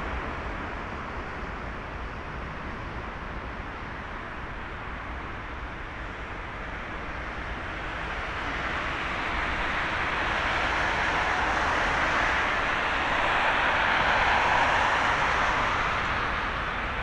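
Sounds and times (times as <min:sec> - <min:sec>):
jet airliner engines roaring: 0:00.0 - 0:17.0.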